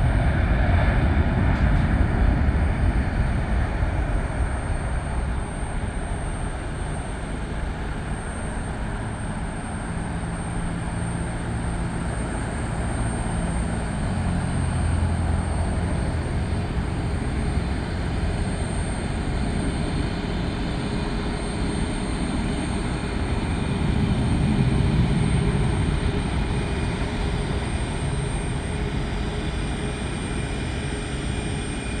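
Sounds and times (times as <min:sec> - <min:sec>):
jet engines deep rumbling: 0:00.0 - 0:32.0.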